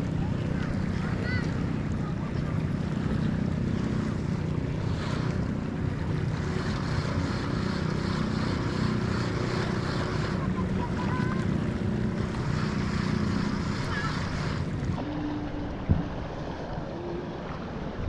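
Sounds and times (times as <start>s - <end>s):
boat diesel engine droning: 0.0s - 18.0s
water around hull: 0.0s - 18.0s.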